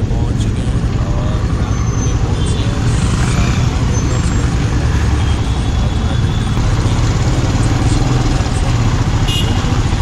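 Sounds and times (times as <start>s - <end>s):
motorcycle engine rumbling: 0.0s - 10.0s.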